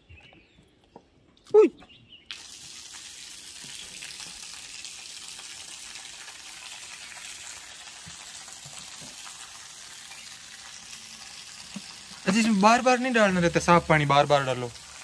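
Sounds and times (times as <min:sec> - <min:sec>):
water draining through hose: 0:02.3 - 0:15.0.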